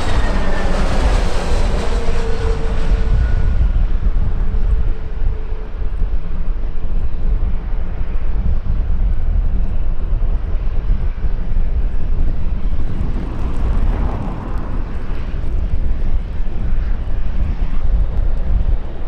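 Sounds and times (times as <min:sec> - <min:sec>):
jet engines: 0:00.0 - 0:19.0
wind buffeting microphone: 0:00.0 - 0:19.0.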